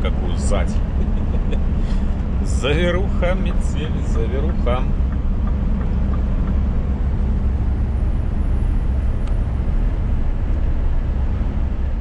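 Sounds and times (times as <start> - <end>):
road and wind noise: 0.0 - 12.0
truck engine and tyre drone: 0.0 - 12.0.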